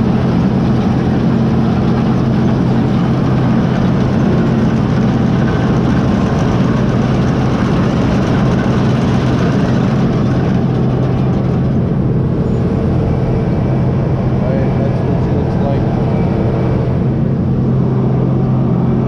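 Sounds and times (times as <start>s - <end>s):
heavy engine running: 0.0s - 19.0s
rushing noise: 0.0s - 19.0s.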